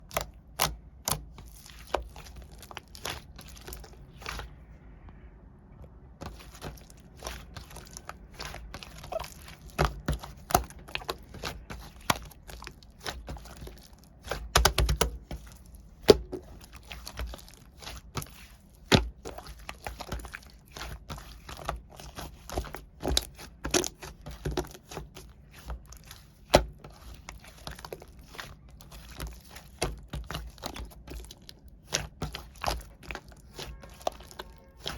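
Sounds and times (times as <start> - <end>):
slime squished by hand: 0.0 - 4.7, 6.2 - 34.9.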